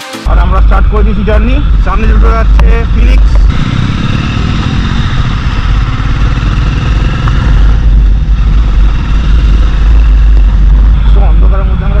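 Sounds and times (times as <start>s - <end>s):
low rumble: 0.3s - 12.0s
motorcycle engine running: 0.3s - 12.0s.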